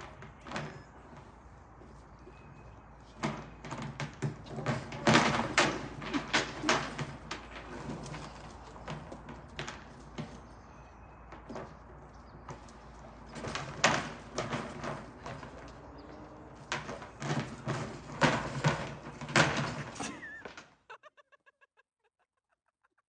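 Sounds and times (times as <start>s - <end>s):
feeder banging against metal frame: 0.0s - 20.3s.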